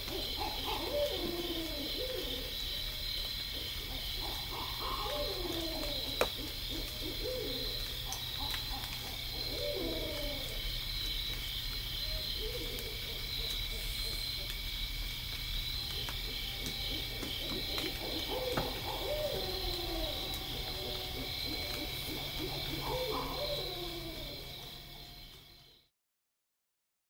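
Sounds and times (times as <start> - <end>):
owls hooting: 0.0 - 10.8, 12.0 - 14.6, 15.7 - 25.8
high insect chorus: 0.0 - 25.9.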